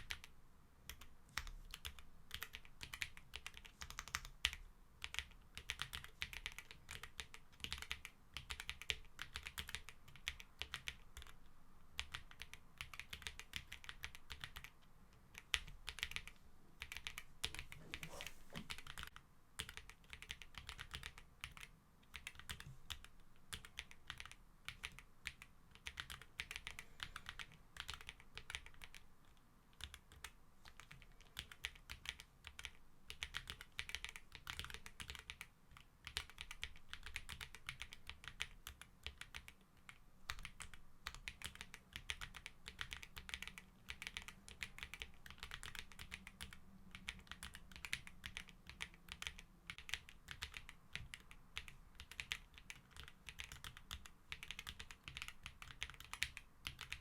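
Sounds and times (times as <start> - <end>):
mechanical keyboard typing: 0.9 - 11.4, 12.0 - 14.7, 18.7 - 29.0, 29.8 - 57.0.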